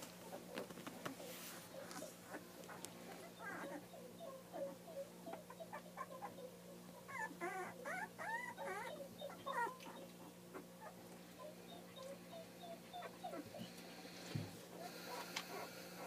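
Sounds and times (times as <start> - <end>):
puppies whimpering and squealing: 1.7 - 13.9, 14.7 - 16.0.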